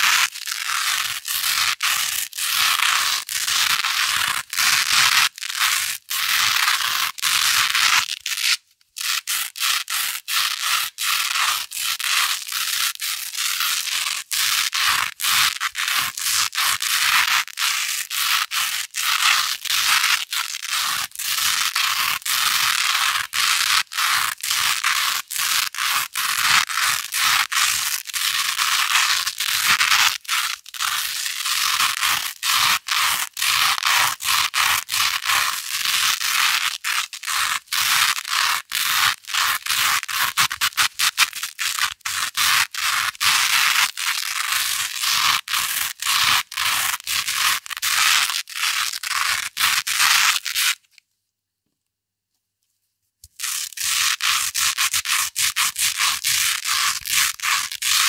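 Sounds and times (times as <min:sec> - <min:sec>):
velcro scratching: 0:00.0 - 0:51.0, 0:53.2 - 0:58.0.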